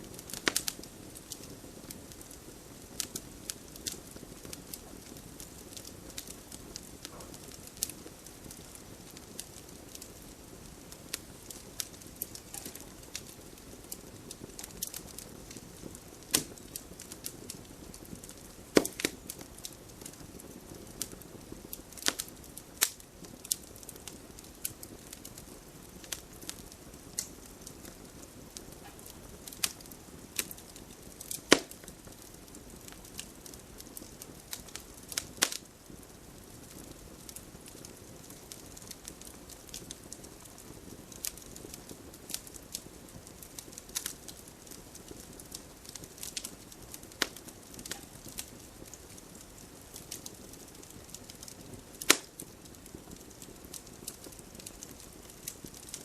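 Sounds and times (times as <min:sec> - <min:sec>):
campfire crackling: 0:00.0 - 0:56.0
fire hiss: 0:00.0 - 0:56.0.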